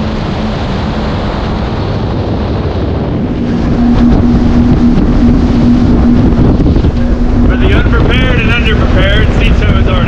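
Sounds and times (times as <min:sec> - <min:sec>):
boat engine hum: 0:00.0 - 0:10.0
water rushing past hull: 0:00.0 - 0:10.0
wind buffeting microphone: 0:00.0 - 0:10.0.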